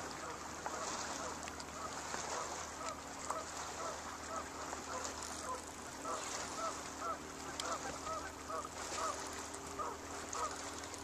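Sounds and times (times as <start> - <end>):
geese honking: 0.2 - 9.2, 9.8 - 10.6.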